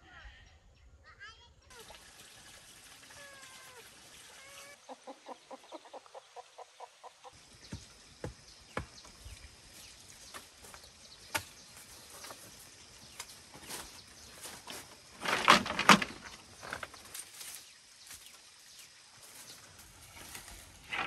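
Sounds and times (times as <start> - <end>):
bird calls: 3.2 - 21.0.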